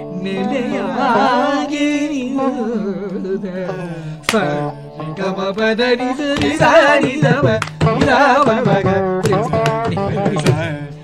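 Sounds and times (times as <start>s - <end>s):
veena playing melody: 0.0s - 11.0s.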